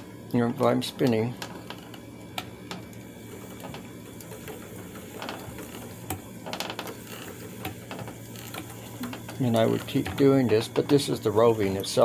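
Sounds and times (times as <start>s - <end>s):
spinning wheel humming: 0.0s - 12.0s.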